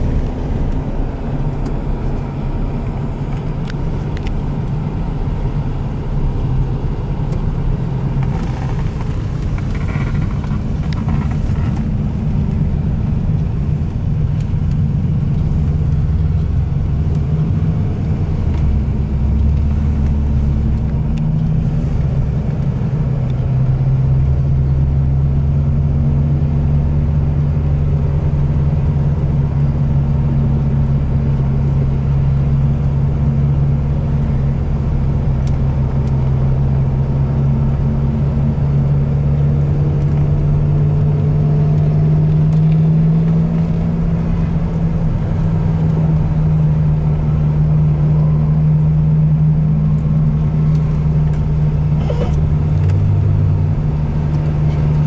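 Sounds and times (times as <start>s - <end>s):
car engine low drone: 0.0s - 55.0s.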